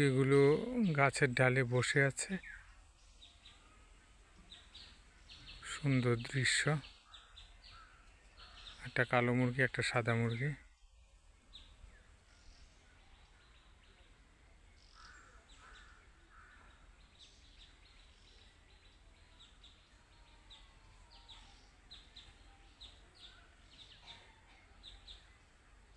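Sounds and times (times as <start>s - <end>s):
lower bird calls: 0.0s - 1.3s, 2.0s - 25.6s.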